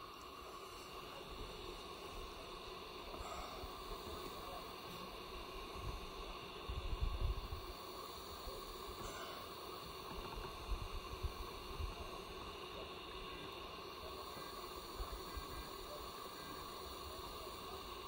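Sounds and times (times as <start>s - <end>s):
faint hiss: 0.0s - 18.0s
printer motors humming: 0.0s - 18.0s.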